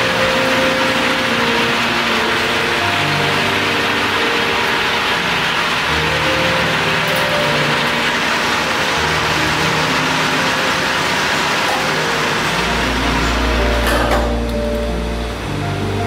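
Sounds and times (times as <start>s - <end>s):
background music low notes: 0.0s - 16.0s.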